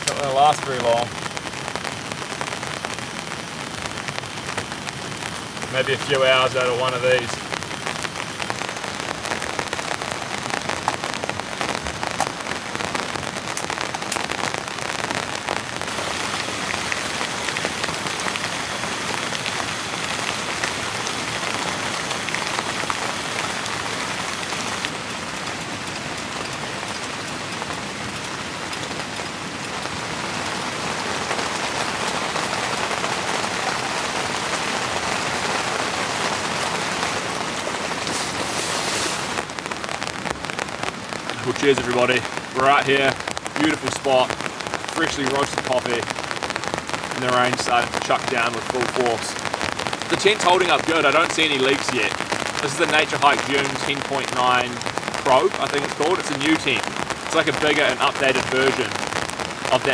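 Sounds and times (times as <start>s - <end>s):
heavy rain on tent fabric: 0.0s - 59.9s.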